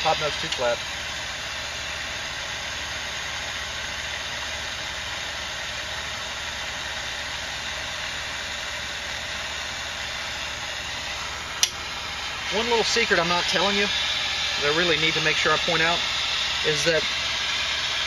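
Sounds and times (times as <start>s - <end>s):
gas flame hissing: 0.0s - 18.0s.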